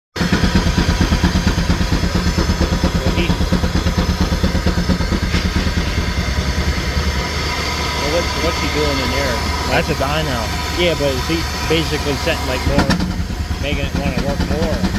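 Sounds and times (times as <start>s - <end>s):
steady hum: 0.2s - 14.9s
steam engine exhaust beats: 0.2s - 14.9s.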